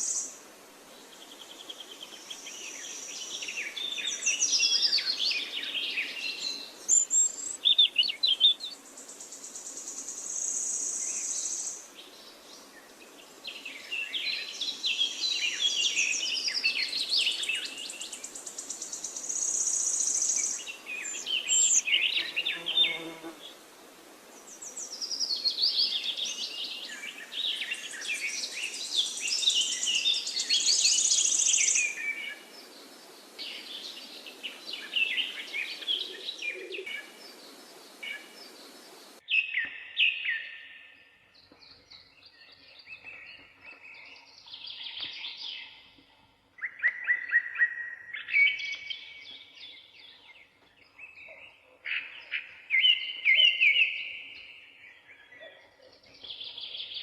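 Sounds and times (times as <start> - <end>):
birds chirping: 1.1 - 23.6, 24.3 - 57.0.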